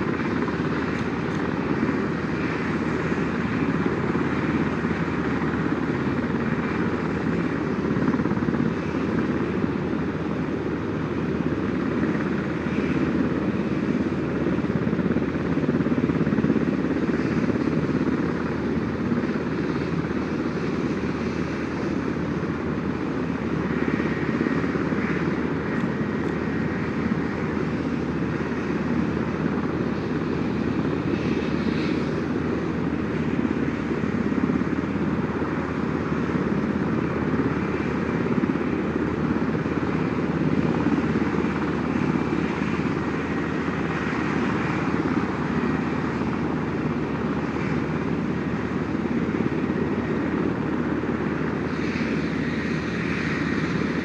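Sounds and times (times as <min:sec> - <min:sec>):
helicopter rotor and turbine drone: 0:00.0 - 0:54.0.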